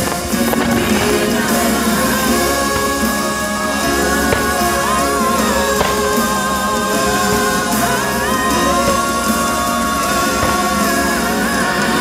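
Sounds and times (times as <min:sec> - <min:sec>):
loud music: 0:00.0 - 0:12.0
person singing: 0:00.0 - 0:12.0.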